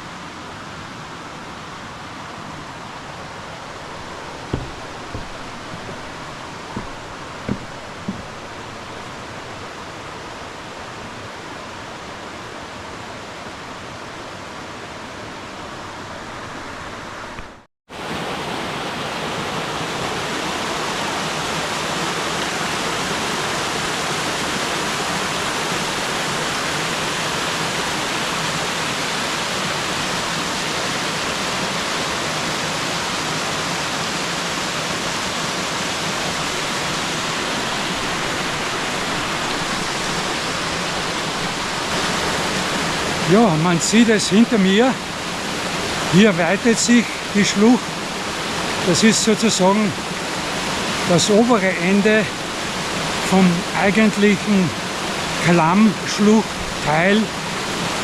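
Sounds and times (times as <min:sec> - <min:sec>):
stream cascades roaring: 0:00.0 - 0:58.0.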